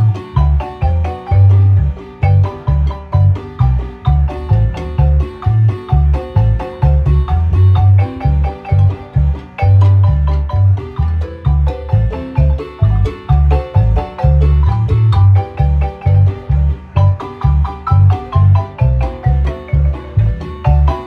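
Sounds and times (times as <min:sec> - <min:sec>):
deep bass pulse: 0:00.0 - 0:21.0
marimba melody: 0:00.0 - 0:21.0.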